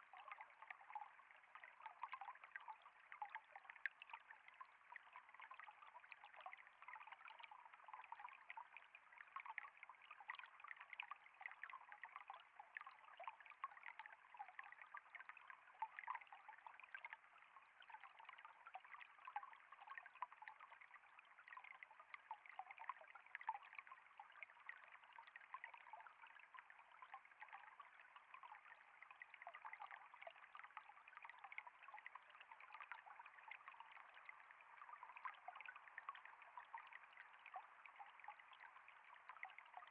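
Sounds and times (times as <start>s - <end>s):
small splashes and drips: 0.0s - 39.9s
water trickling: 0.0s - 39.9s.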